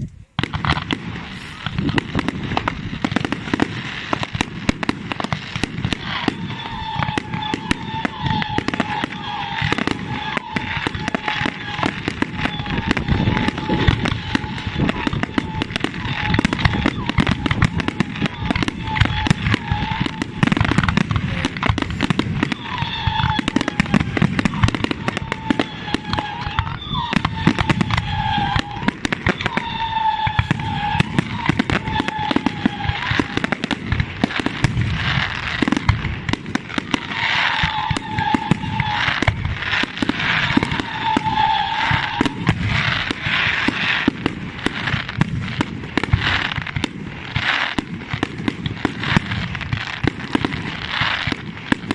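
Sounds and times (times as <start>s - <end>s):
firework whistles: 0.0s - 51.9s
fireworks crackling and popping: 0.0s - 51.9s.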